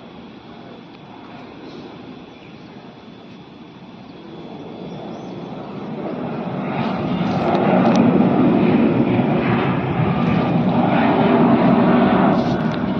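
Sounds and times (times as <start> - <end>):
aeroplane engines during takeoff: 0.0 - 12.9.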